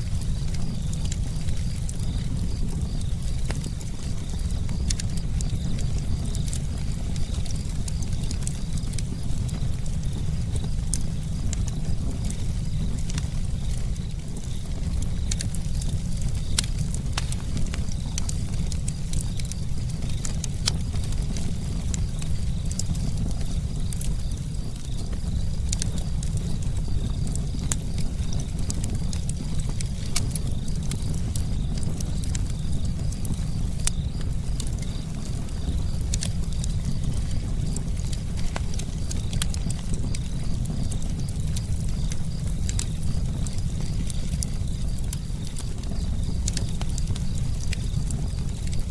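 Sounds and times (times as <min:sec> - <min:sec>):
campfire crackling: 0:00.0 - 0:48.9
low rumble of burning fire: 0:00.0 - 0:48.9.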